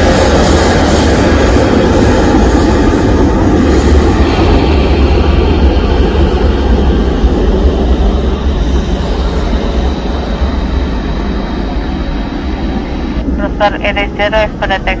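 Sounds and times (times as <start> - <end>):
jet engines roaring at take-off: 0.0 - 15.0.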